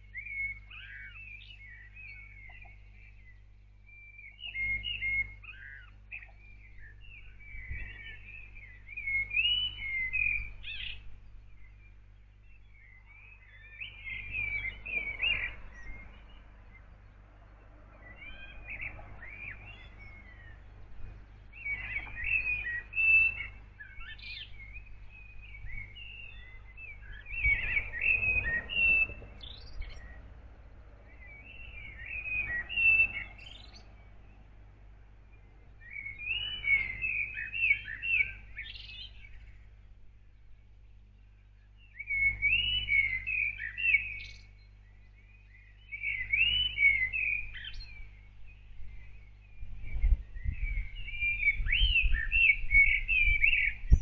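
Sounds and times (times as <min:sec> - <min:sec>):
songbird warbling: 0:00.0 - 0:30.3, 0:31.0 - 0:54.0
low background rumble: 0:00.0 - 0:37.5, 0:38.3 - 0:54.0.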